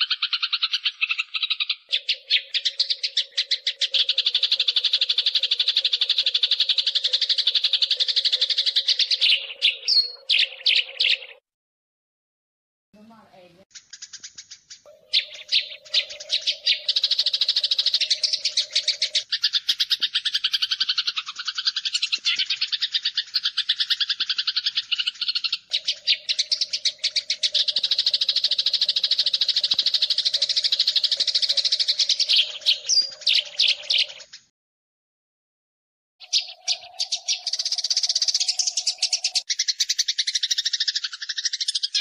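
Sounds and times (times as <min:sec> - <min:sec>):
sparrows chattering: 0:00.0 - 0:11.4, 0:13.0 - 0:34.5, 0:36.2 - 0:42.0.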